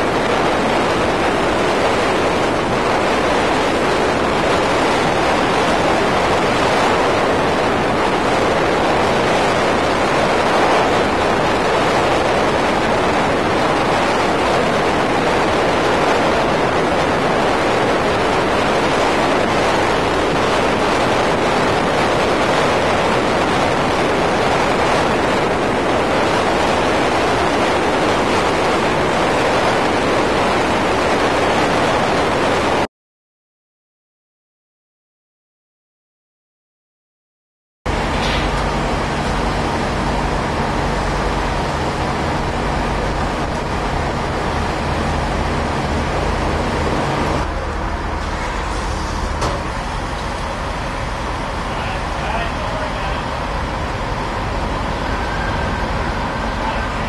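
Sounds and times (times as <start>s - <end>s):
car road noise and wind: 0.0s - 32.9s, 37.9s - 57.0s
wind buffeting microphone: 0.0s - 32.9s, 37.9s - 57.0s.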